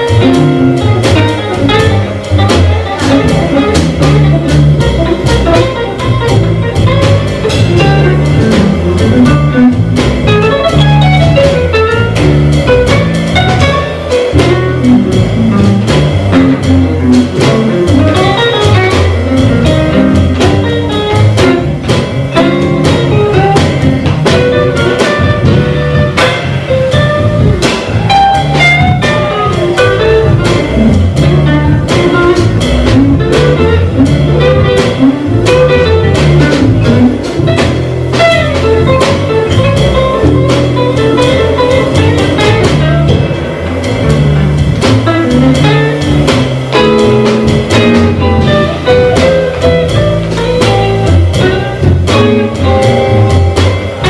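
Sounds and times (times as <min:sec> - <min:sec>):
drum kit keeping time: 0:00.0 - 0:54.0
jazz guitar: 0:00.0 - 0:54.0
walking double bass: 0:00.0 - 0:54.0.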